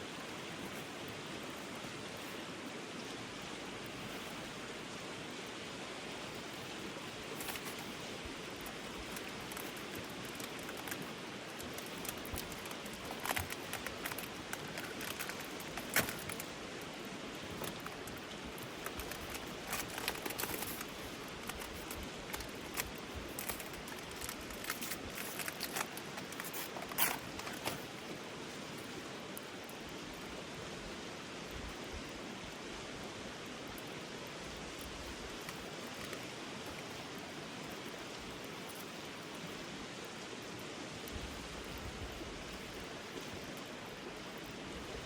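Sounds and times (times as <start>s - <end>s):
stream flowing: 0.0s - 45.0s.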